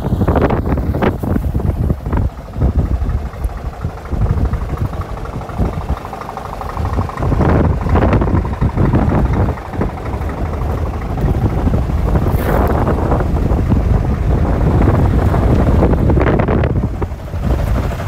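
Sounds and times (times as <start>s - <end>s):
truck diesel engine idling: 0.0s - 18.0s
wind buffeting microphone: 0.0s - 18.0s.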